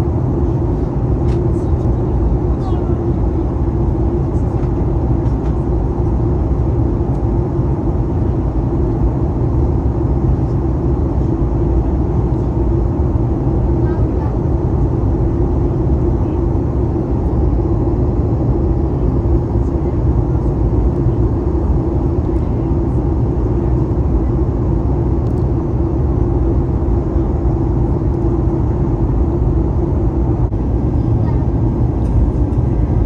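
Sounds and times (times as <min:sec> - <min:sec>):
airliner cabin rumble: 0:00.0 - 0:33.0
constant hum: 0:00.0 - 0:33.0.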